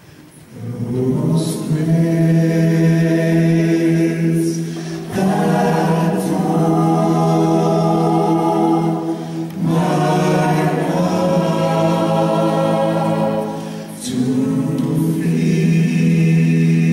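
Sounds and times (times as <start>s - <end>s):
gospel choir singing: 0.4s - 16.9s.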